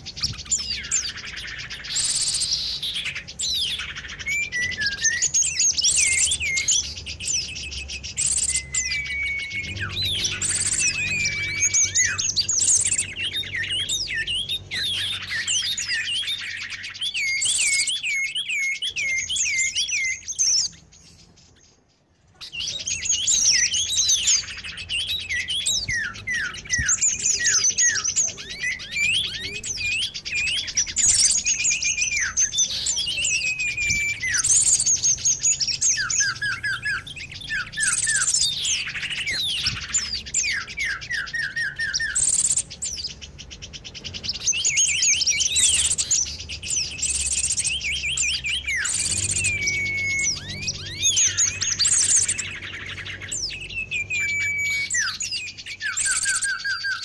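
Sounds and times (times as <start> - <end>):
falling whistled bird notes: 0.0 - 21.7, 22.4 - 43.2, 44.2 - 57.0
songbirds chirping: 0.0 - 57.0.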